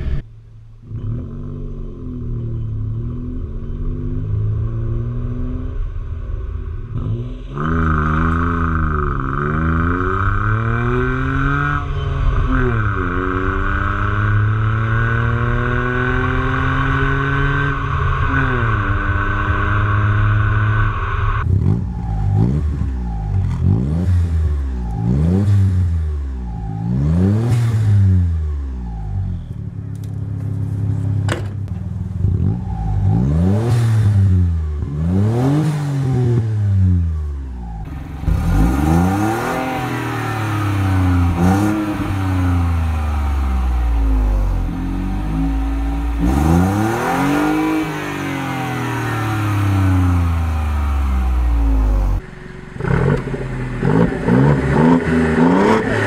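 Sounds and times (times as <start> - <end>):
car engine accelerating: 0.0 - 56.0
car engine rev blips: 0.0 - 56.0
car engine revving: 0.0 - 56.0.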